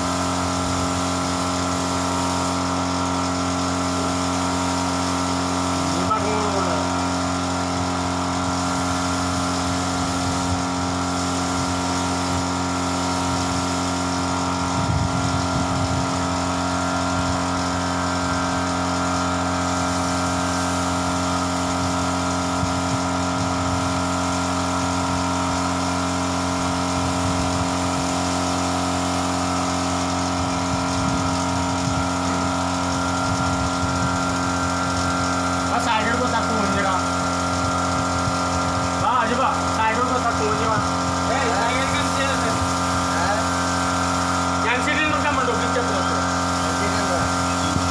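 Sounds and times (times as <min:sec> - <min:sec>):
air compressor running: 0:00.0 - 0:47.9.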